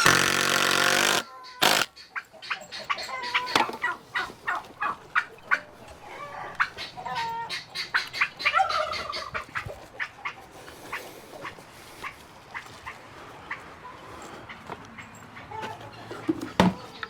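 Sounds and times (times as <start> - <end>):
turkeys gobbling: 1.0 - 17.0.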